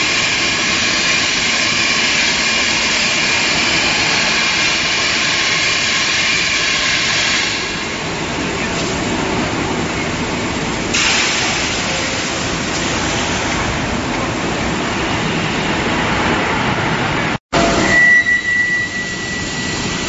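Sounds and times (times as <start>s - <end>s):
heavy machinery roaring and hissing: 0.0s - 18.0s.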